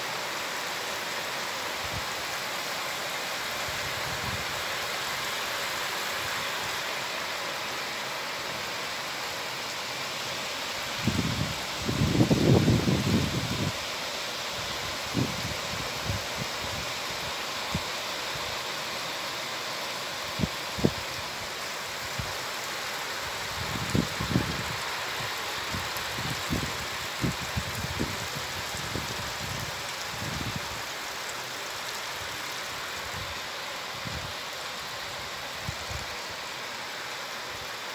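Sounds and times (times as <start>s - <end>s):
heavy rain hissing: 0.0s - 37.9s.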